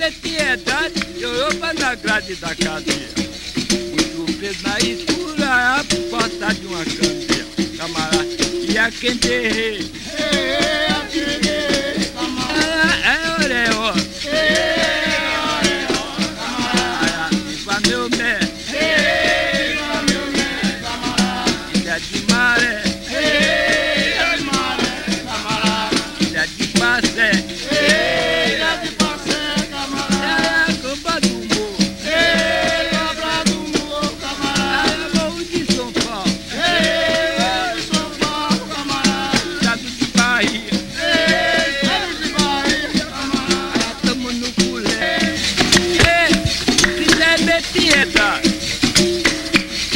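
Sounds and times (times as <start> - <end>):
basket rattle shaking: 0.0 - 49.9
berimbau melody: 0.0 - 49.9.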